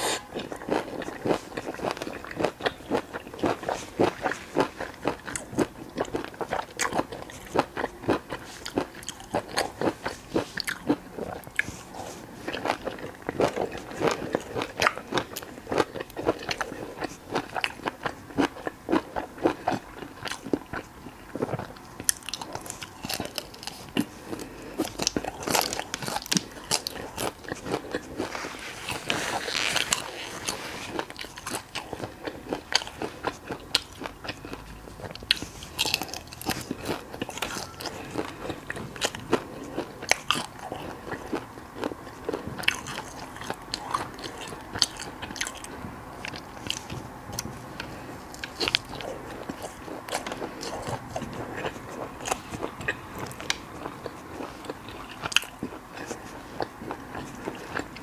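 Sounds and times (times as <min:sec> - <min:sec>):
crunchy bites and chewing: 0:00.0 - 0:58.0.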